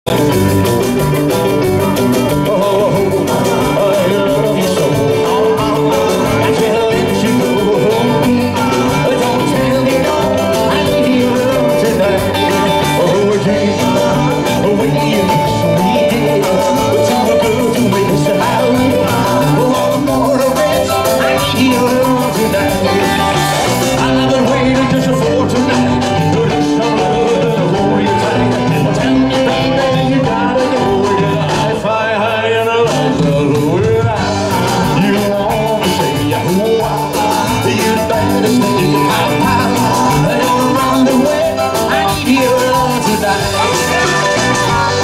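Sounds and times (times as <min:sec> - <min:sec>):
rock and roll band playing: 0:00.0 - 0:45.0
man singing: 0:00.1 - 0:45.0.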